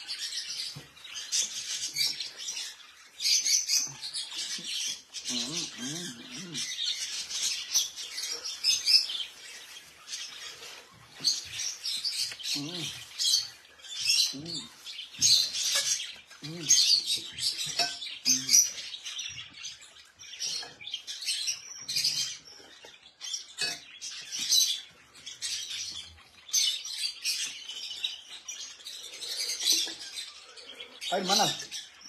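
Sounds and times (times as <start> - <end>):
caged birds chirping: 0.0 - 32.0.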